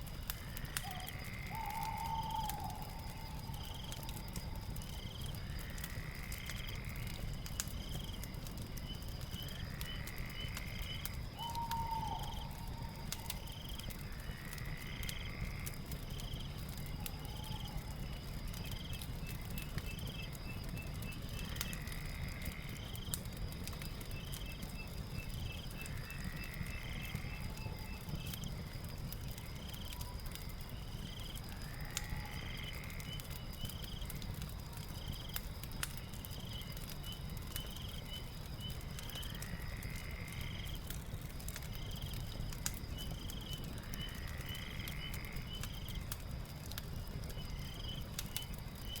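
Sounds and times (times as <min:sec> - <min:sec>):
fire rumble with crackles: 0:00.0 - 0:49.0.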